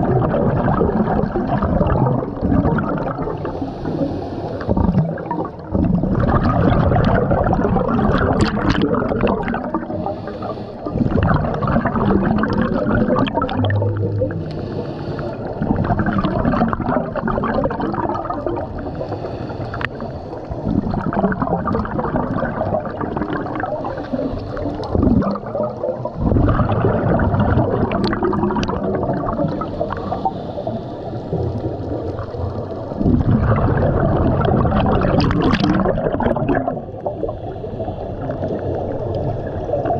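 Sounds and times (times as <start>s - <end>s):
diver's breath bubbling underwater: 0.0s - 39.9s.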